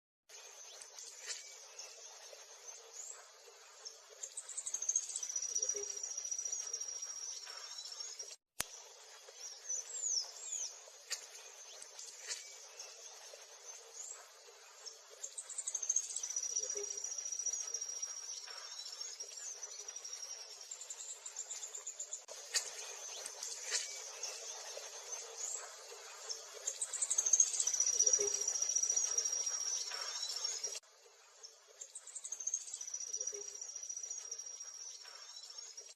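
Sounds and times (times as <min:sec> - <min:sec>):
small songbirds singing: 0:00.3 - 0:35.9.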